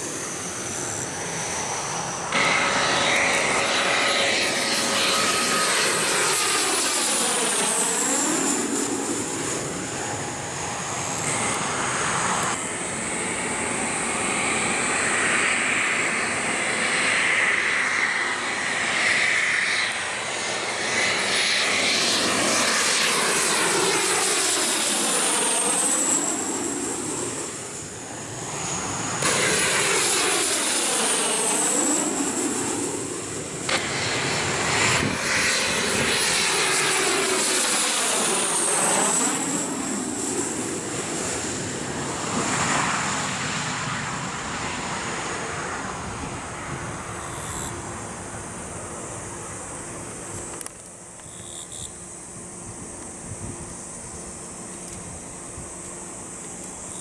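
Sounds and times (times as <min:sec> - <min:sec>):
jets passing low overhead: 0:00.0 - 0:57.0.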